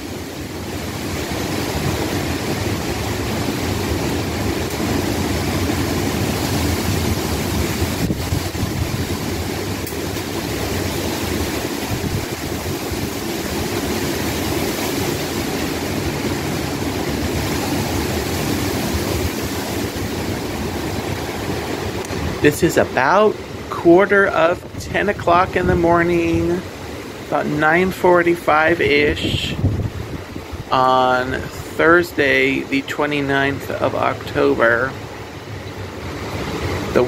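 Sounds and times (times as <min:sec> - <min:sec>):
falling rain: 0:00.0 - 0:37.0
gusting wind: 0:00.0 - 0:37.0
wind buffeting microphone: 0:00.1 - 0:27.8, 0:28.5 - 0:32.0.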